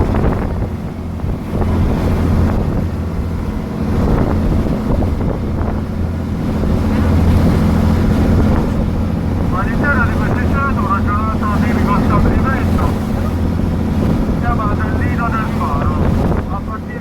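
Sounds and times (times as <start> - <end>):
boat engine humming: 0.0 - 17.0
water rushing: 0.0 - 17.0
wind buffeting microphone: 0.0 - 17.0.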